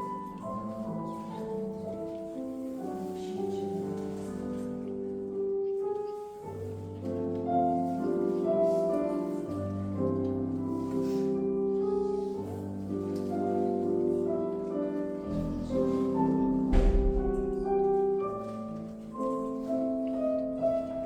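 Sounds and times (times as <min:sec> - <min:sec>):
piano playing slow chords: 0:00.0 - 0:21.0.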